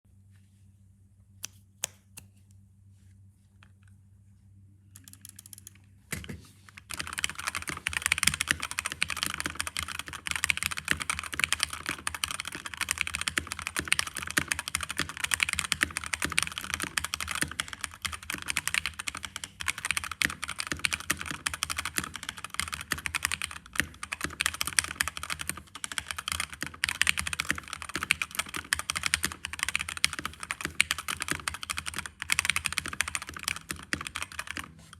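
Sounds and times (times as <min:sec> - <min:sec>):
mechanical keyboard typing: 0:05.0 - 0:34.8.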